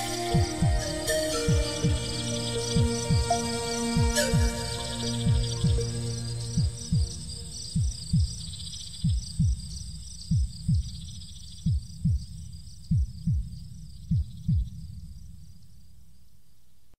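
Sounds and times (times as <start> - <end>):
heartbeat low thumps: 0.0 - 15.4
crickets chirring: 0.0 - 16.7.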